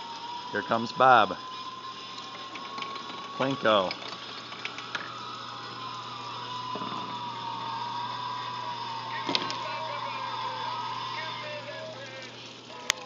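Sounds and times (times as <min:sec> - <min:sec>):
high whine: 0:00.0 - 0:13.0
low hum: 0:00.0 - 0:13.0.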